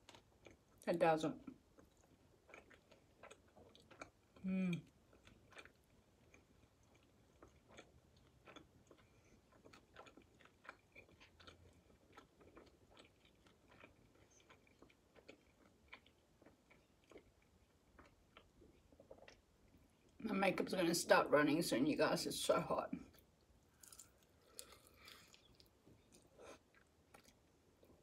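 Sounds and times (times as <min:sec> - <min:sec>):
faint chewing with mouth clicks: 0:00.0 - 0:00.8, 0:01.4 - 0:20.2, 0:23.0 - 0:28.0.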